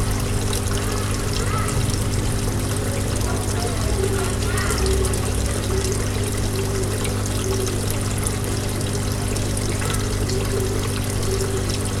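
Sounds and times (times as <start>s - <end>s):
aquarium pump humming: 0.0s - 12.0s
water trickling and bubbling: 0.0s - 12.0s.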